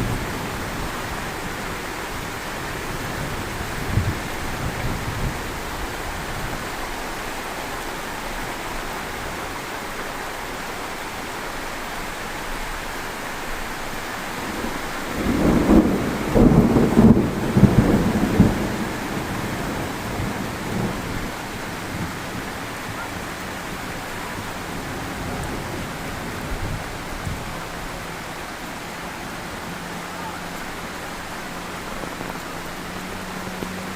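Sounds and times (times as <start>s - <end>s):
thunder rumbling: 0.0s - 9.4s, 14.2s - 33.9s
heavy rain falling: 0.0s - 33.9s.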